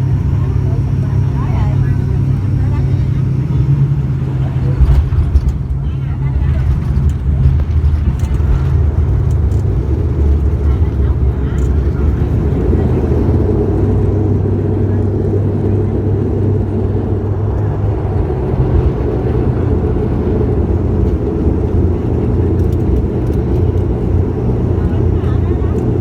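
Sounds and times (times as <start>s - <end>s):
turboprop engines droning: 0.0s - 26.0s.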